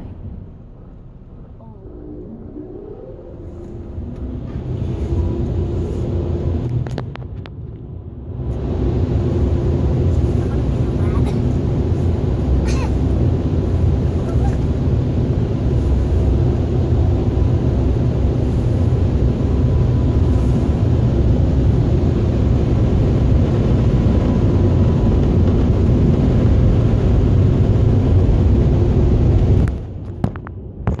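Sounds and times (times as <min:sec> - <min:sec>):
car wash machinery rumble: 0:00.0 - 0:30.7.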